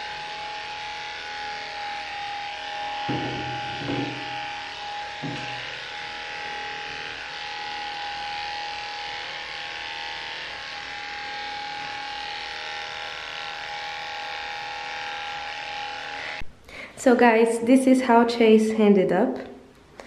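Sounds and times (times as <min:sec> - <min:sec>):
electric dog clippers running: 0:00.0 - 0:16.5.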